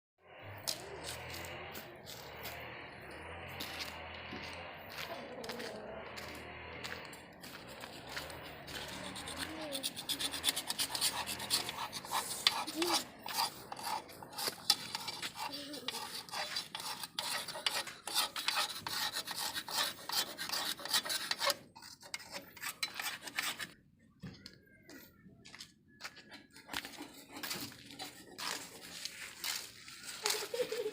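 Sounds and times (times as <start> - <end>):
rasping scrapes on hard surface: 0.5 - 23.8, 26.5 - 30.9.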